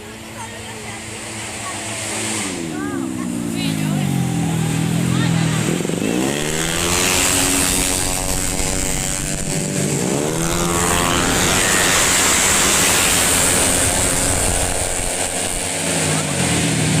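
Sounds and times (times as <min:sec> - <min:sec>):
scooter engines revving past: 0:00.0 - 0:17.0.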